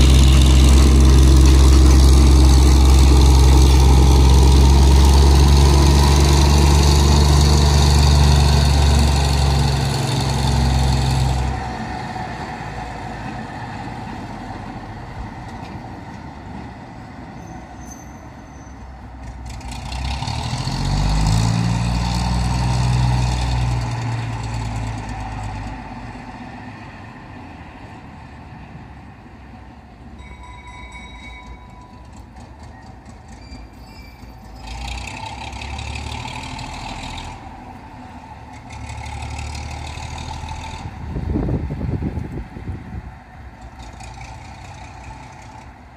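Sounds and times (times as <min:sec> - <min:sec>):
diesel locomotive engine running: 0:00.0 - 0:45.9.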